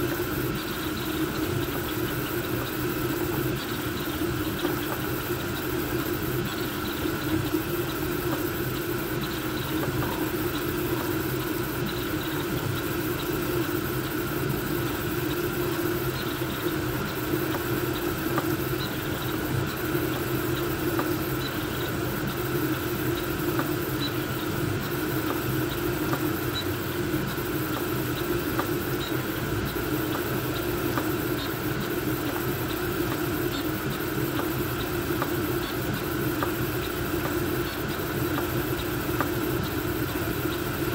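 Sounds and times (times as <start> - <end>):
cooling fans whirring: 0.0 - 40.9.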